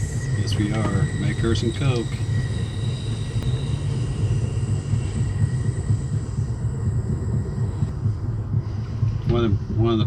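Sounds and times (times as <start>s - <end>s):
faint high steady tones: 0.0s - 10.0s
train car rumbling: 0.0s - 10.0s.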